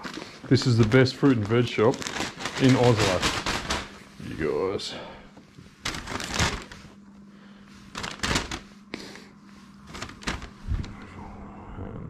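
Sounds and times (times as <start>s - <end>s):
rustling handling noise: 0.0s - 11.0s
faint low hum: 0.0s - 12.0s.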